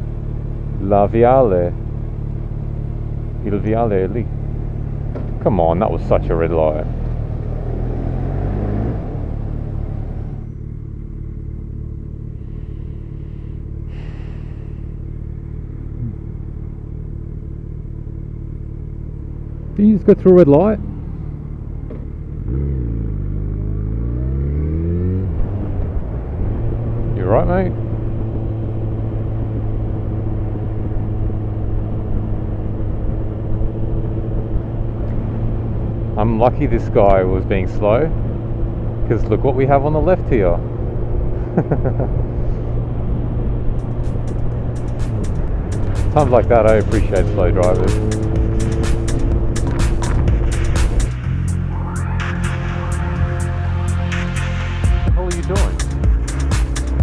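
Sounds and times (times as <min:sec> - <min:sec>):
motorcycle engine running: 0:00.0 - 0:07.6, 0:09.1 - 0:36.4, 0:37.1 - 0:51.5, 0:53.0 - 0:57.0
wind and road noise: 0:00.0 - 0:57.0.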